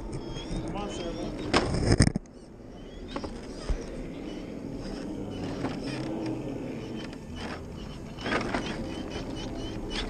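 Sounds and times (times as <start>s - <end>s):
toy truck motor whirring: 0.2s - 10.0s.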